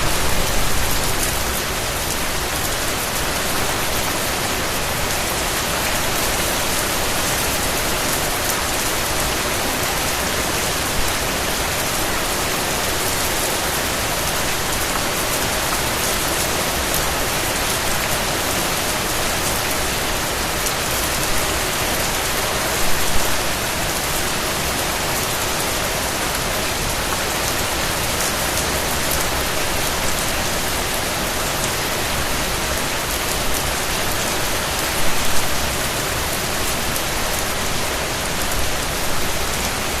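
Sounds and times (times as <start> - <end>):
rain pattering on a surface: 0.0 - 40.0.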